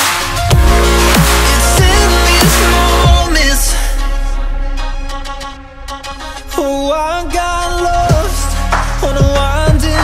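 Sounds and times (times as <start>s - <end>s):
electronic music with sliding bass: 0.0s - 10.0s.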